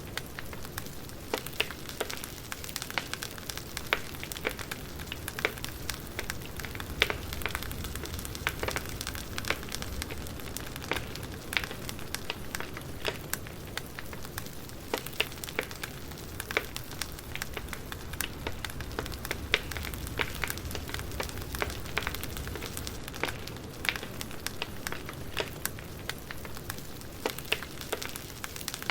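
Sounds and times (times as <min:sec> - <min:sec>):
fire hissing and rumbling: 0:00.0 - 0:28.9
wood crackling and popping: 0:00.0 - 0:28.9.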